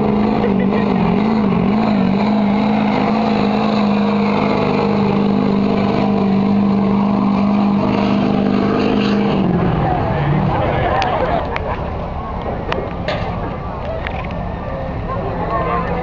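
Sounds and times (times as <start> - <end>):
diesel truck engine at high revs: 0.0 - 16.0.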